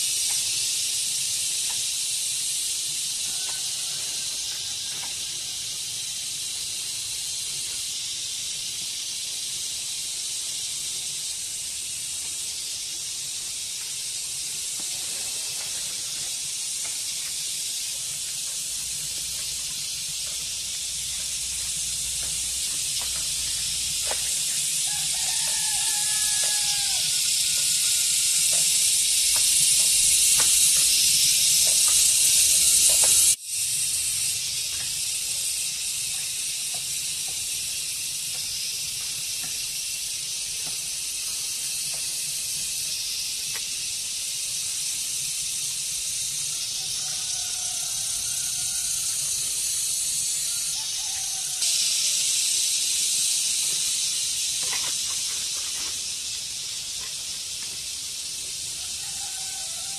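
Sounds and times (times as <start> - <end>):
insect chorus hissing: 0.0 - 59.9.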